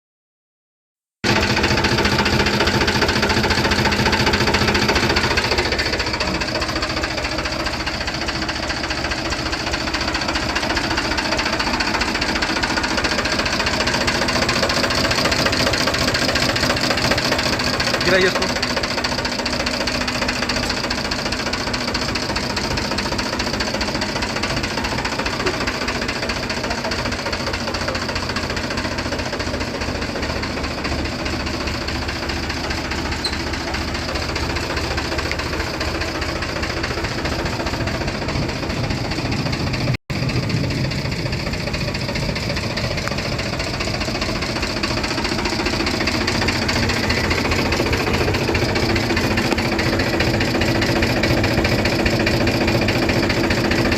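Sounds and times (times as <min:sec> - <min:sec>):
diesel tractor engine clattering: 0:01.2 - 0:53.9.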